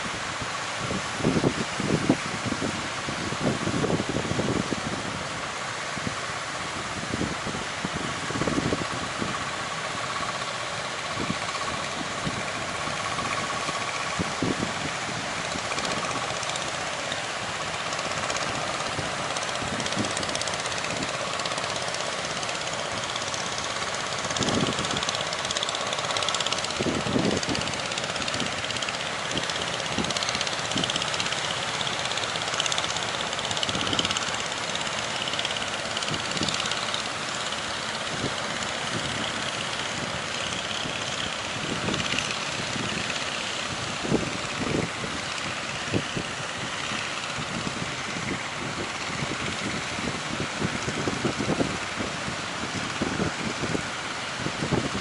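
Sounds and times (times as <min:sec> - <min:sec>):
boat engine running: 0:00.0 - 0:55.0
wind and sea rushing: 0:00.0 - 0:55.0
wind buffeting microphone: 0:00.0 - 0:55.0.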